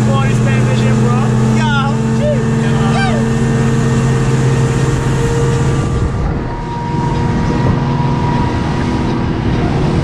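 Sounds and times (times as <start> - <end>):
motorboat engine humming: 0.0 - 10.0
wind and water rushing: 0.0 - 10.0.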